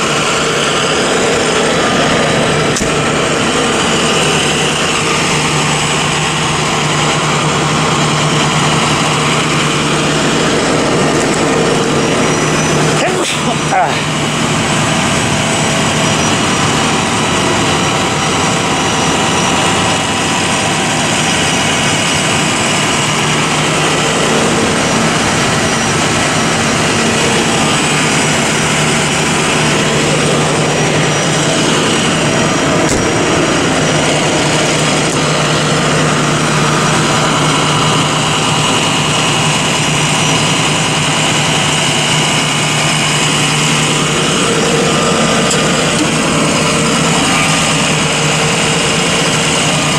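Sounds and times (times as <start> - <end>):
engine idling with hiss: 0.0 - 49.9.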